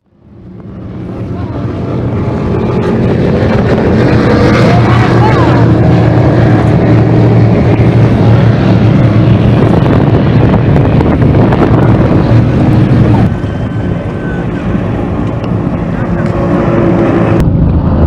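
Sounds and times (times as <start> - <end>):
boat engine running: 0.1 - 18.0
powerboat engines racing: 0.1 - 18.0
wind buffeting microphone: 0.2 - 18.0.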